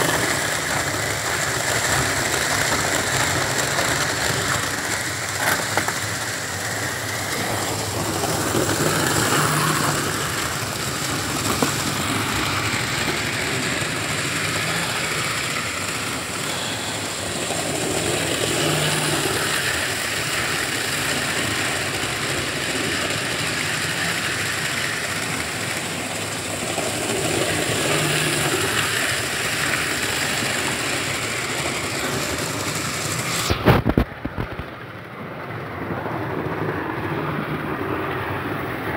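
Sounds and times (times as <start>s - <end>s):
model train whirring and rattling: 0.0s - 38.9s.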